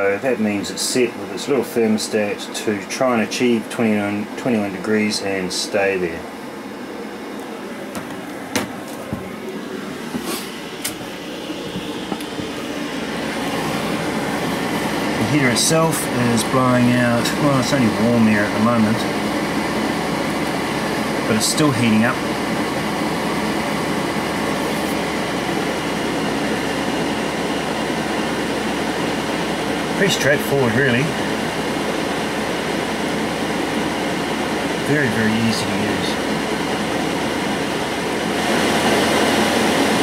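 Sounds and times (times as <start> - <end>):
air heater fan humming: 0.0 - 40.0.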